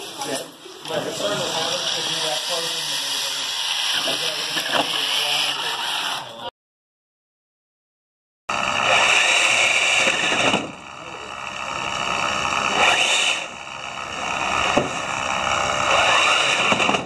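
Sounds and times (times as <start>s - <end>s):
electric motors whining: 0.0s - 6.5s, 8.5s - 17.0s.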